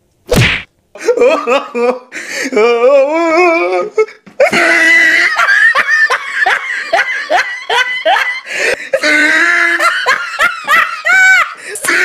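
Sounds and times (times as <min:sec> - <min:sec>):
person laughing loudly: 0:01.0 - 0:02.8, 0:03.4 - 0:12.0.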